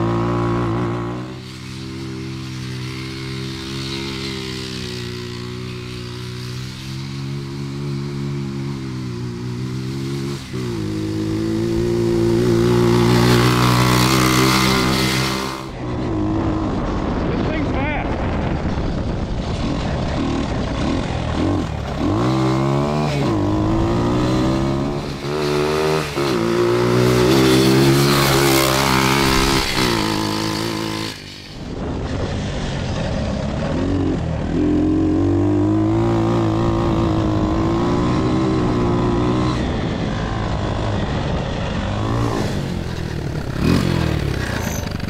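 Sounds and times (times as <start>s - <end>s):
go-kart engine accelerating: 0.0s - 17.3s, 18.2s - 45.0s.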